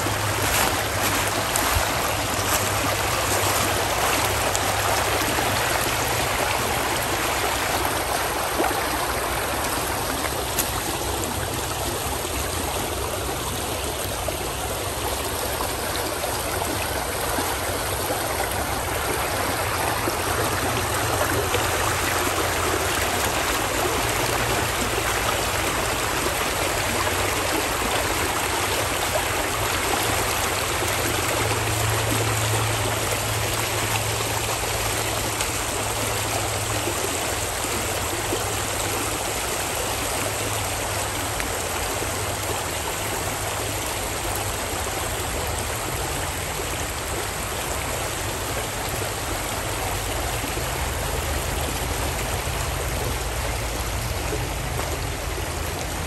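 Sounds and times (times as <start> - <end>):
creek rippling over gravel: 0.0 - 56.0.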